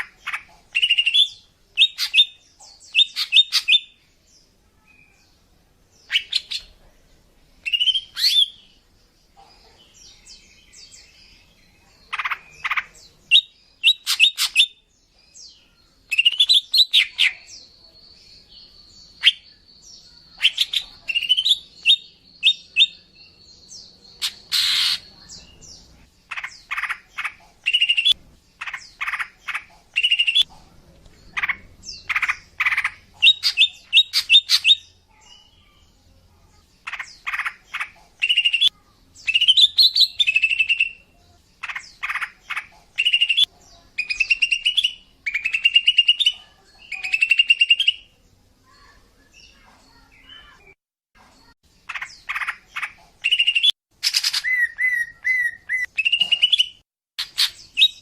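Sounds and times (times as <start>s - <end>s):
bird chirping and calling: 0.0s - 4.1s, 6.0s - 6.8s, 7.6s - 8.8s, 9.4s - 30.6s, 31.2s - 35.7s, 36.8s - 50.8s, 51.4s - 58.0s.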